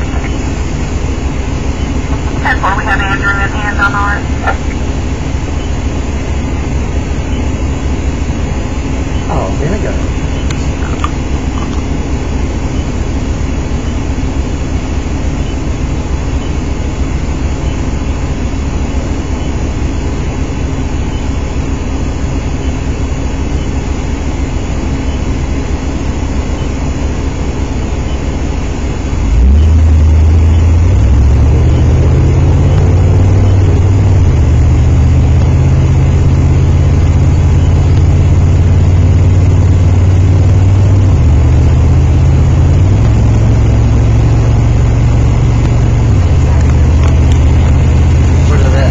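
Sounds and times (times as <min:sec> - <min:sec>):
car engine running: 0:00.0 - 0:48.9
deep steady drone: 0:00.0 - 0:48.9.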